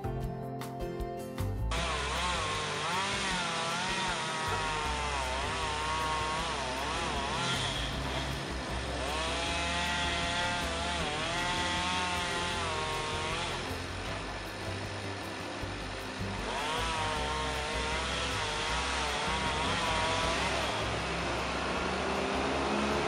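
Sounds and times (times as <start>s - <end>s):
chainsaw cutting wood: 1.7s - 23.0s.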